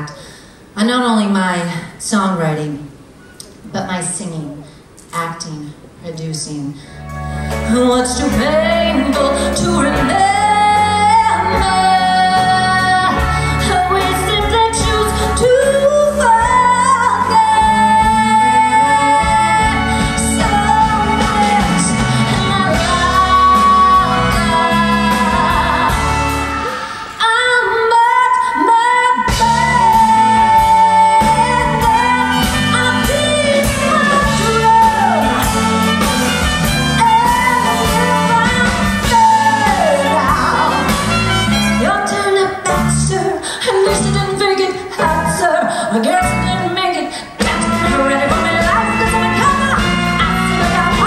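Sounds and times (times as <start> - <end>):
live band playing: 6.8 - 51.0
woman singing into microphone: 7.5 - 51.0.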